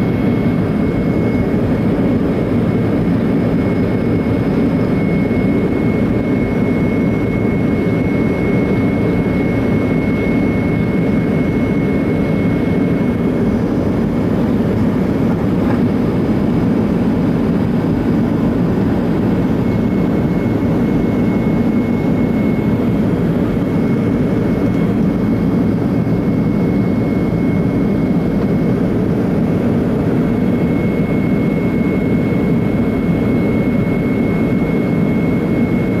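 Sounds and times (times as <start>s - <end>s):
jet engine cabin roar: 0.0s - 36.0s
thin steady whine: 0.0s - 36.0s.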